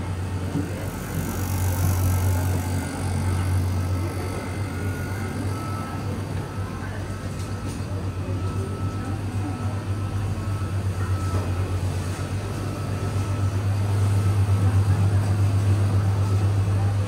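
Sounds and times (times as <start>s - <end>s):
vehicle mechanical hum: 0.0s - 17.0s.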